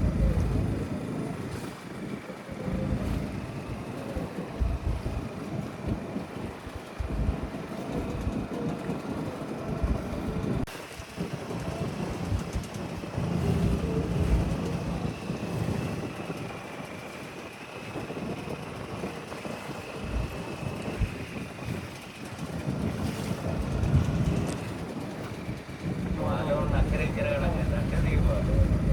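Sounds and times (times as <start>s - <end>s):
boat engine running: 0.0s - 28.9s
wind buffeting microphone: 0.0s - 28.9s.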